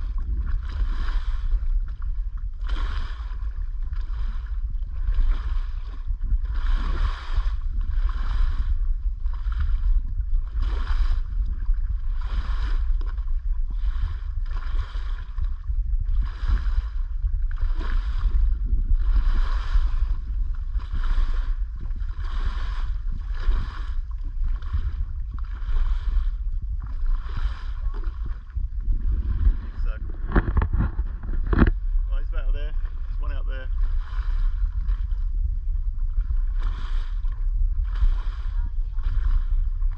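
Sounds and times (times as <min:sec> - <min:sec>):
paddle splashing water: 0:00.0 - 0:39.9
steady low rumble: 0:00.0 - 0:39.9.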